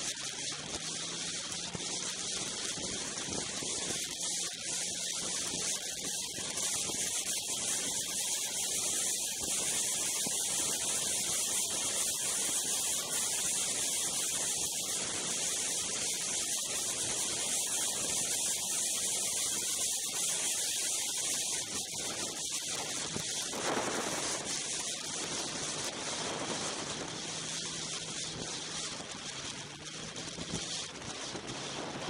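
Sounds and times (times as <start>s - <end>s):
snowmobile running: 0.0s - 32.0s
wind hiss on microphone: 0.0s - 32.0s.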